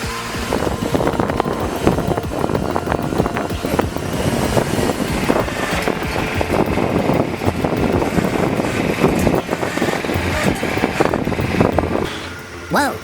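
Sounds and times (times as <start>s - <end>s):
wind buffeting microphone: 0.0s - 12.6s
truck engine rumble: 0.0s - 13.0s.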